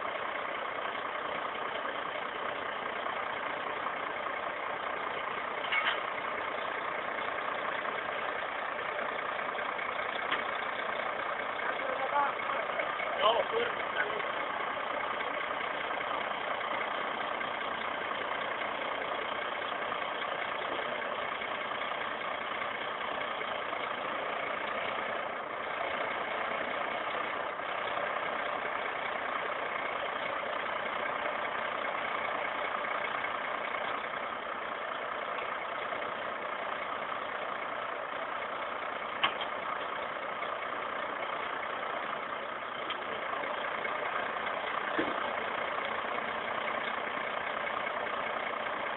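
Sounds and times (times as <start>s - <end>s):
tractor diesel engine idling: 0.0s - 48.9s.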